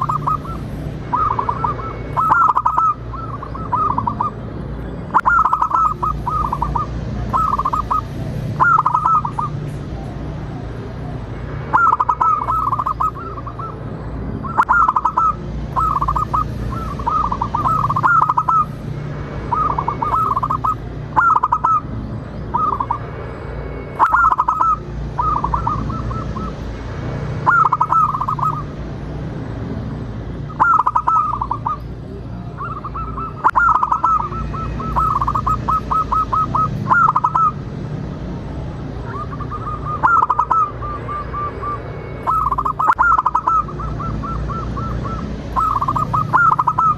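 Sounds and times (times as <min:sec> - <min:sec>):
dove cooing: 0:00.0 - 0:04.4, 0:05.1 - 0:13.8, 0:14.4 - 0:18.7, 0:19.5 - 0:21.9, 0:24.0 - 0:26.6, 0:27.4 - 0:28.7, 0:30.5 - 0:31.9, 0:32.6 - 0:37.6, 0:39.0 - 0:46.9.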